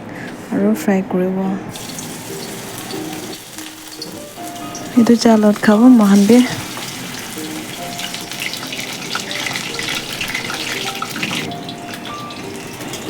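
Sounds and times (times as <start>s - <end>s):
deep-frying sizzle with crackles: 1.7s - 13.0s.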